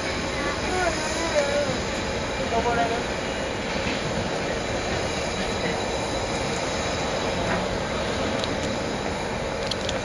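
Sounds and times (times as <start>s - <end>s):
train wheels rolling on rails: 0.0s - 10.0s.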